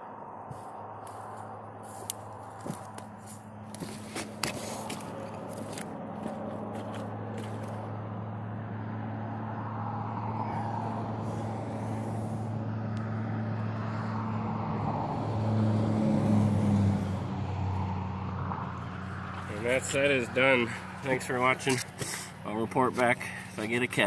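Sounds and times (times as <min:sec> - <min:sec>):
vehicle engine passing by: 0:00.1 - 0:23.9.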